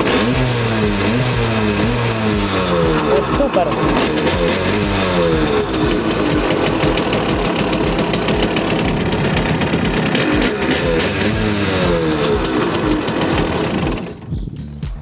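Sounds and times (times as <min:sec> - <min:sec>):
two-stroke scooter engine revving: 0:00.0 - 0:14.4.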